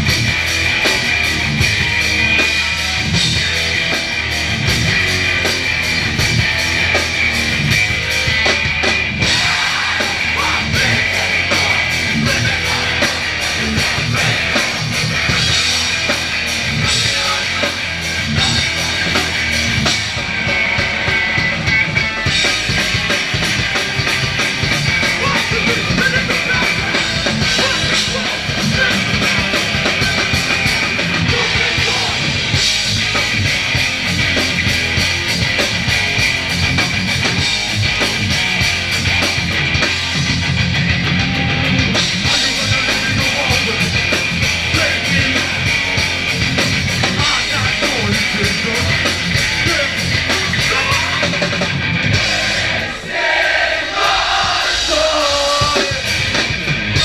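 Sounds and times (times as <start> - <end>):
distorted electric guitars: 0.0 - 57.0
pounding drum kit: 0.0 - 57.0.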